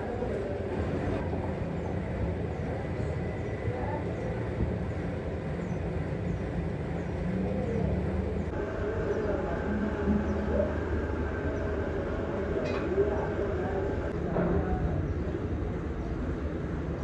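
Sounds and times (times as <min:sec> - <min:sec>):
foundry workshop rumble: 0:00.0 - 0:17.0.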